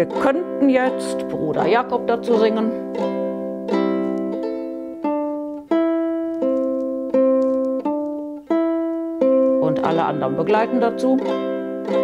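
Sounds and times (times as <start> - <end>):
ukulele plucked tune: 0.0 - 12.0.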